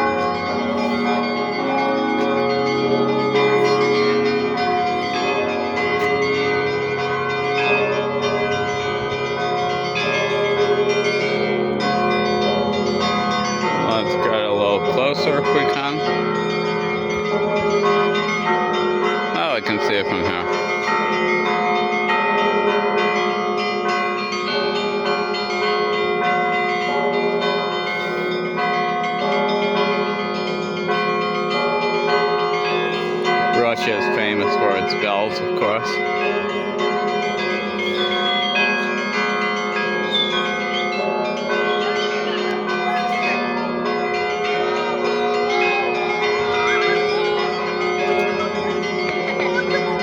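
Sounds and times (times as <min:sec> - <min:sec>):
church bells pealing: 0:00.0 - 0:50.0.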